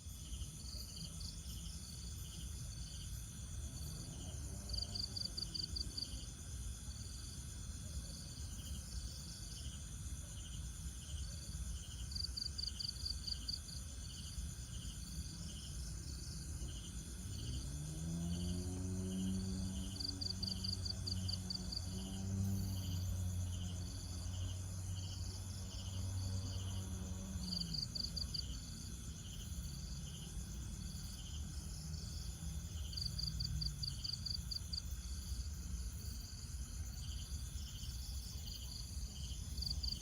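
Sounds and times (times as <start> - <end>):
insects chirping: 0.0 - 40.0.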